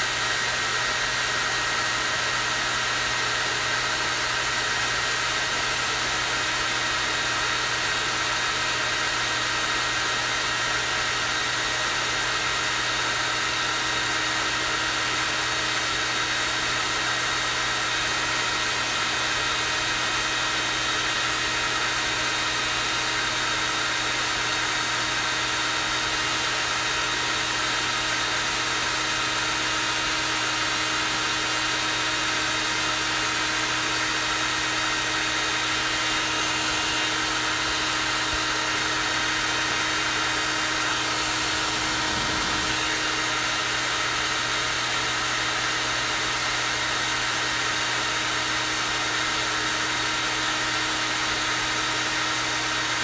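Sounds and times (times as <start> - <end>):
hair dryer running: 0.0 - 53.0.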